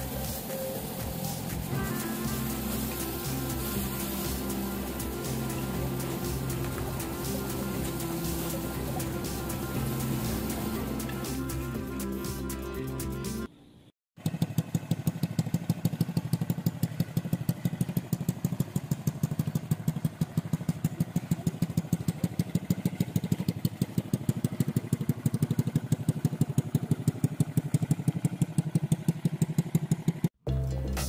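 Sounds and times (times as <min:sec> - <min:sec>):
motorcycle engine idling: 0:00.0 - 0:13.5, 0:14.2 - 0:30.4.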